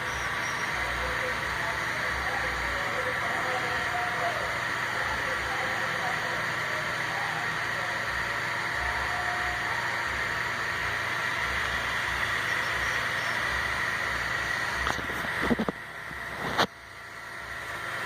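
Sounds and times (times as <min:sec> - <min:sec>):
laser engraver whirring: 0:00.0 - 0:18.0.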